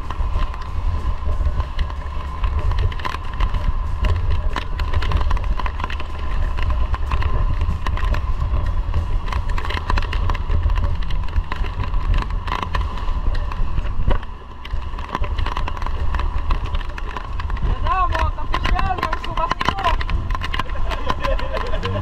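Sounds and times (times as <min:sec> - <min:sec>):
outboard motor running: 0:00.0 - 0:22.0
wind buffeting microphone: 0:00.0 - 0:22.0.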